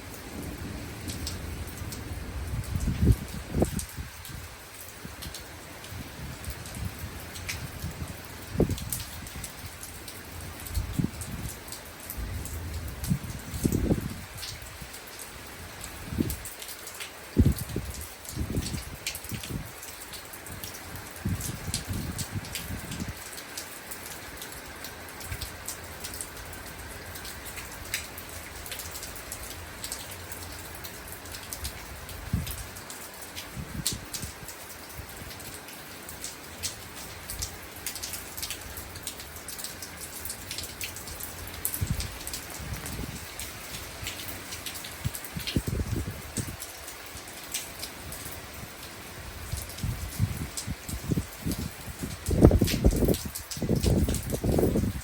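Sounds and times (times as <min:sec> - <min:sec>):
raindrops ticking on a surface: 0:00.0 - 0:55.0
steady rain: 0:00.0 - 0:55.0.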